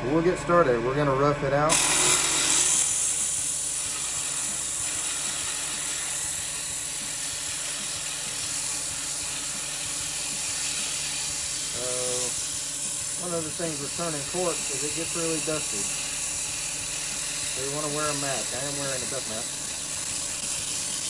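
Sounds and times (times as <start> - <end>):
lathe motor hum: 0.0 - 21.0
sandpaper hissing on cork: 2.7 - 21.0.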